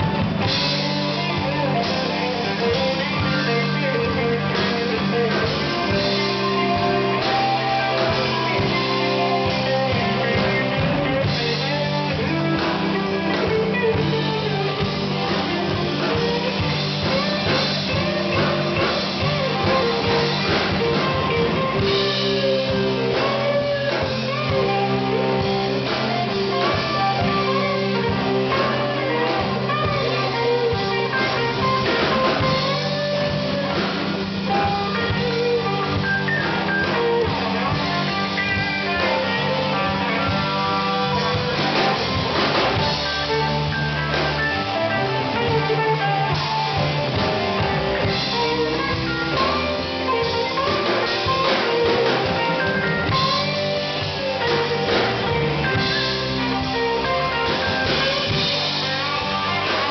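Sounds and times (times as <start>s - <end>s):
drum kit: 0.0s - 59.9s
electric bass: 0.0s - 59.9s
electric guitar solo: 0.0s - 59.9s.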